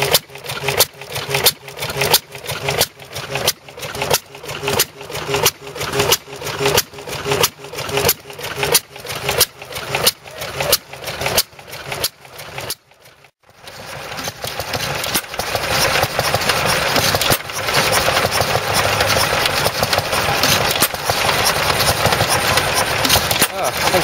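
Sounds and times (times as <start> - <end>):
stationary engine clattering: 0.0 - 24.0
stationary engine knocking: 0.0 - 24.0.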